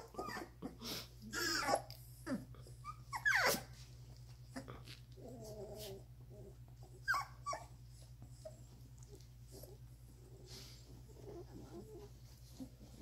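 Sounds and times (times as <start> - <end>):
puppies whimpering: 0.0 - 3.9, 4.5 - 13.0
steady low hum: 0.0 - 13.0.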